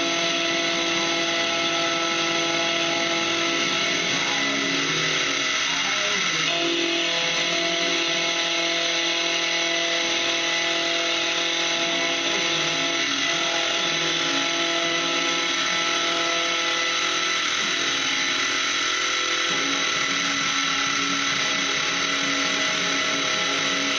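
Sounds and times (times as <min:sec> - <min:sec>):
milling machine running: 0:00.0 - 0:23.9.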